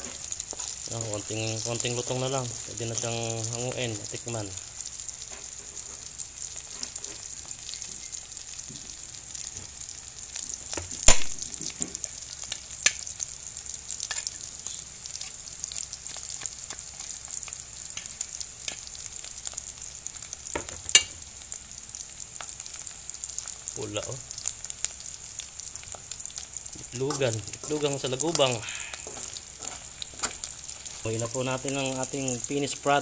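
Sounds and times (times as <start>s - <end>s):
beetles sizzling in oil: 0.0s - 33.0s.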